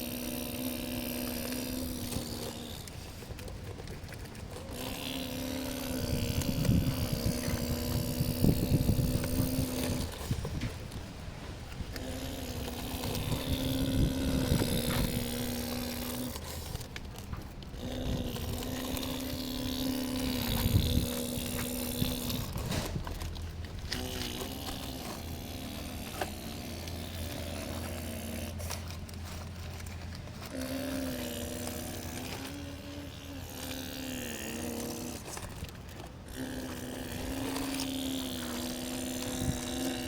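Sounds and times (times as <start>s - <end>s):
small electric motors whining: 0.0s - 40.0s.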